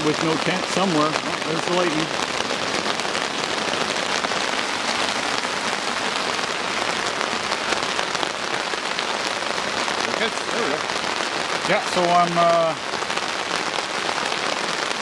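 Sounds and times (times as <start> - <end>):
torrential rain: 0.0 - 15.0.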